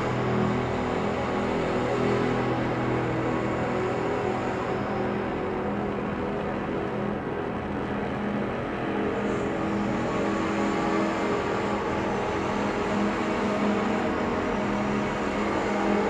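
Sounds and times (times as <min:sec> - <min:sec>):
low ambient music drone: 0:00.0 - 0:16.0.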